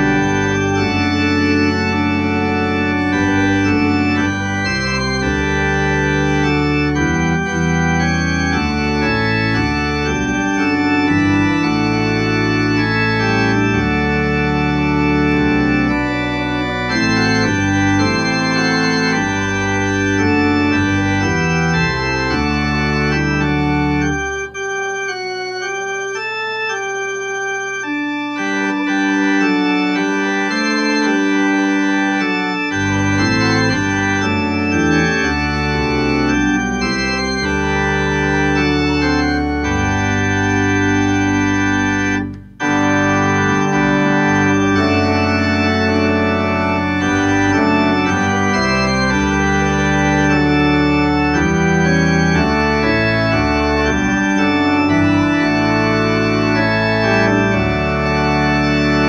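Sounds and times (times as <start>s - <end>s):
church organ playing hymn: 0.0s - 59.0s.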